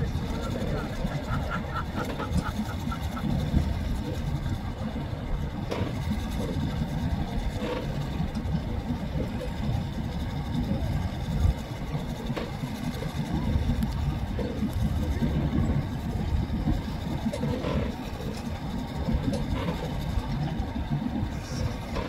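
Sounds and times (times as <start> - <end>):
truck engines idling: 0.0 - 22.0.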